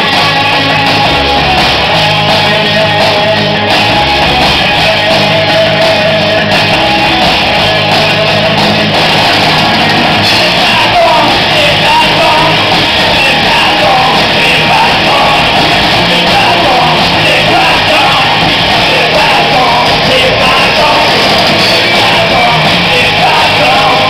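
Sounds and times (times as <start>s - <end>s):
live rock band playing: 0.0s - 24.0s
person singing lead vocal: 0.0s - 24.0s.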